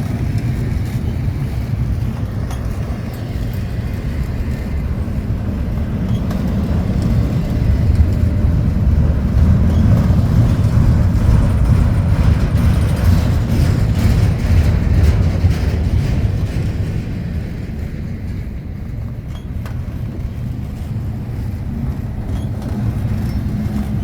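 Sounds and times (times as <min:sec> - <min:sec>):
low vehicle rumble: 0:00.0 - 0:24.0.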